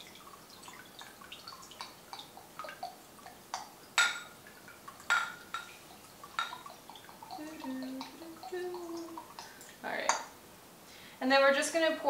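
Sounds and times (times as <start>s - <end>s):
sauce dripping into glass: 0.0s - 10.3s.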